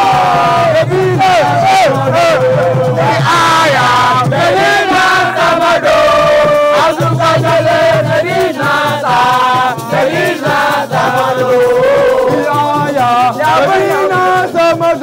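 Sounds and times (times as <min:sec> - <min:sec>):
crowd singing a chant: 0:00.0 - 0:15.0.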